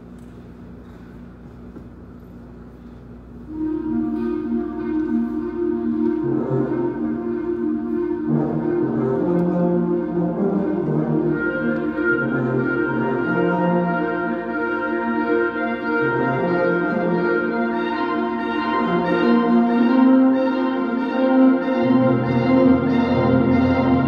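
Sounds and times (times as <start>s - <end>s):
saxophone and brass ensemble chords: 3.4s - 24.0s.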